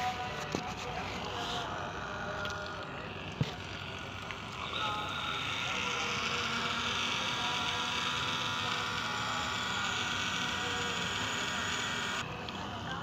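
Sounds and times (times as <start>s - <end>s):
small electric water pump running: 0.0s - 13.0s.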